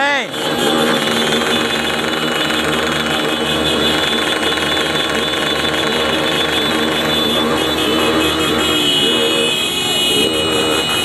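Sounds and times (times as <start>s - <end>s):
motorcycles idling: 0.0s - 11.0s.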